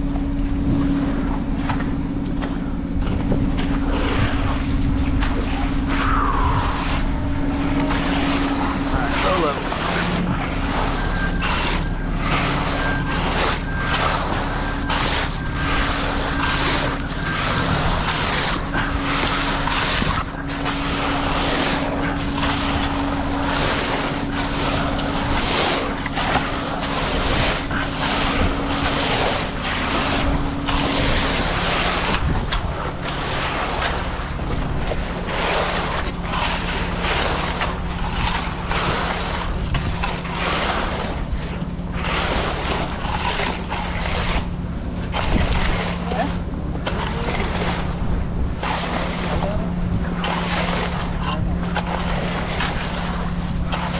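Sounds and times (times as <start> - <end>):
wind buffeting microphone: 0.0 - 43.4
engine running steadily: 0.0 - 53.9.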